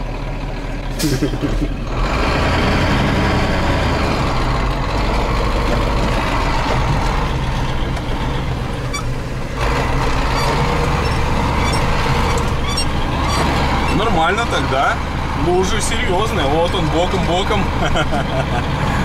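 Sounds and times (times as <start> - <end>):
truck diesel engine under load: 0.0 - 19.0.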